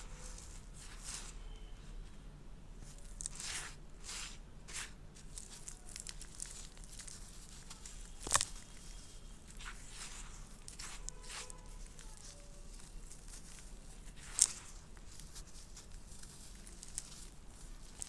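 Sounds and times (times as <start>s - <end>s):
dry dirt crunching: 2.8s - 18.0s.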